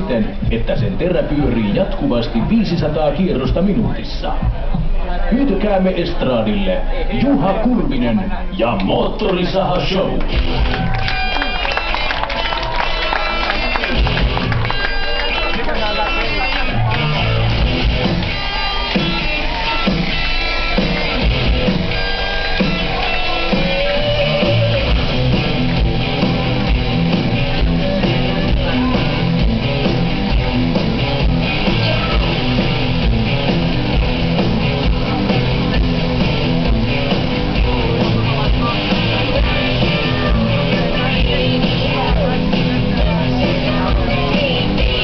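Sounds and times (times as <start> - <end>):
guitar backing music: 0.0 - 45.0.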